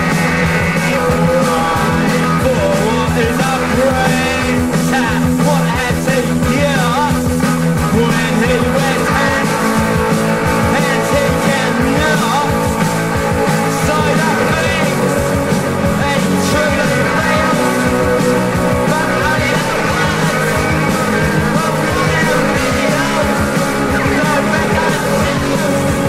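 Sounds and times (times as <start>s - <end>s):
person singing: 0.0s - 26.0s
punk rock band playing: 0.0s - 26.0s.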